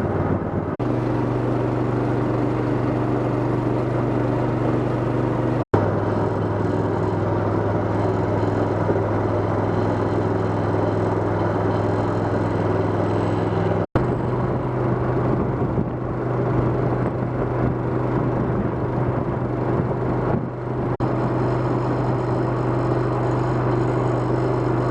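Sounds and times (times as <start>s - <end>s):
motor humming: 0.0s - 24.9s.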